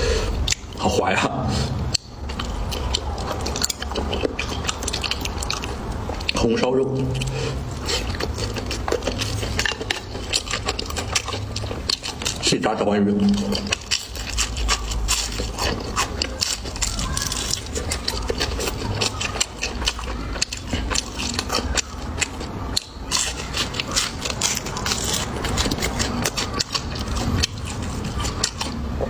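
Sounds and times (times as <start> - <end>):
crunchy chewing of fried fish: 0.0 - 29.0.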